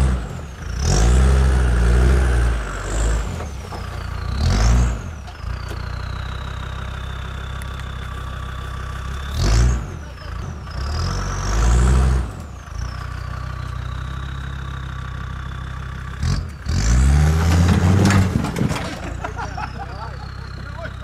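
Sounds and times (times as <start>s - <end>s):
diesel engine idling and revving: 0.0s - 21.0s.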